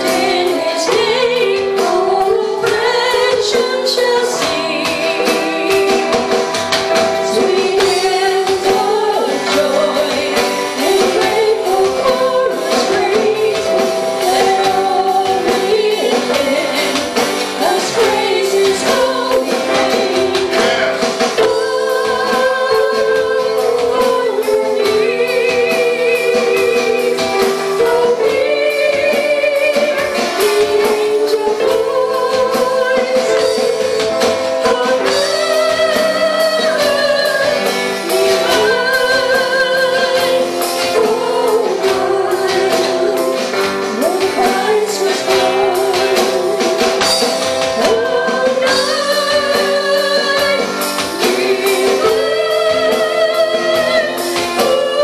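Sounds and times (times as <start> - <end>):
acoustic guitar: 0.0 - 55.0
drum kit: 0.0 - 55.0
keyboard: 0.0 - 55.0
women singing: 0.0 - 55.0.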